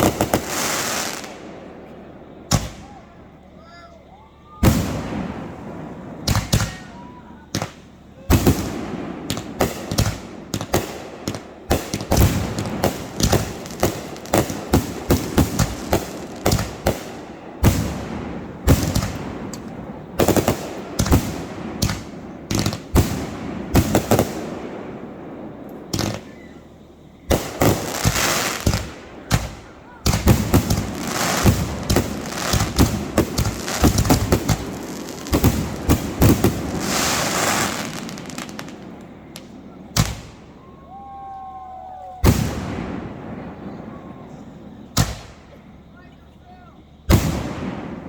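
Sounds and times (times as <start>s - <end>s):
fireworks bangs and pops: 0.0s - 3.5s, 4.6s - 40.8s, 42.2s - 45.7s, 47.0s - 48.0s
fireworks crackling: 0.0s - 48.0s.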